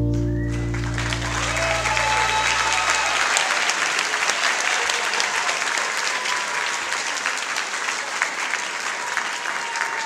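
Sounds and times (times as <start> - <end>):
audience applauding: 0.4 - 10.0.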